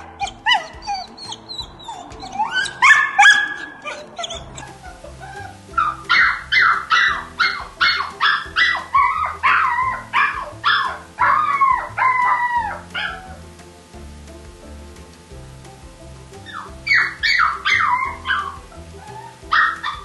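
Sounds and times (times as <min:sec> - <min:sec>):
dog barking rapidly: 0:00.0 - 0:13.4, 0:16.5 - 0:20.0
background music: 0:00.0 - 0:20.0.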